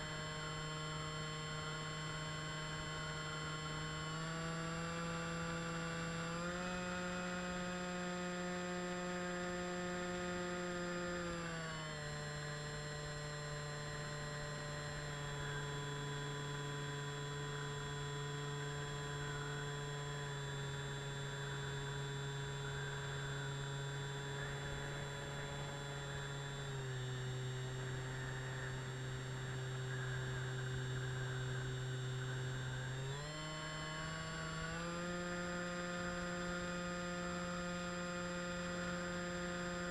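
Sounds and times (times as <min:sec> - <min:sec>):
model aircraft motor whine: 0:00.0 - 0:39.9.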